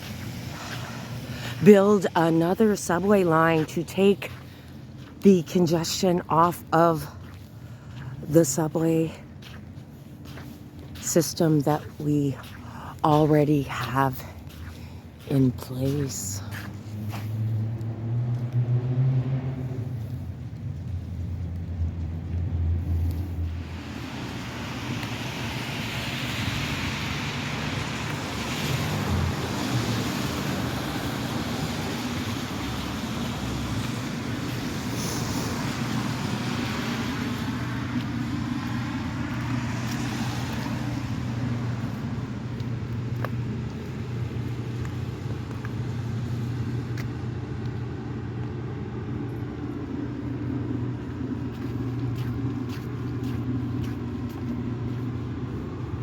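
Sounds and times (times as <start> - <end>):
cars passing: 0.0 - 56.0
low engine hum: 0.0 - 56.0.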